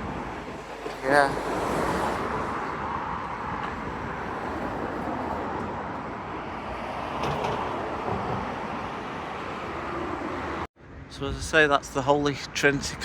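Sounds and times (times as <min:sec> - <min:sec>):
cars passing on road: 0:00.0 - 0:11.3.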